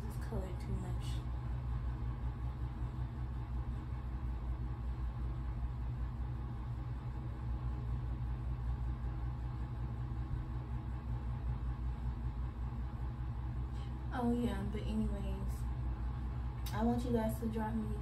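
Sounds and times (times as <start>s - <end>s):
low rumble of background noise: 0.0s - 18.0s.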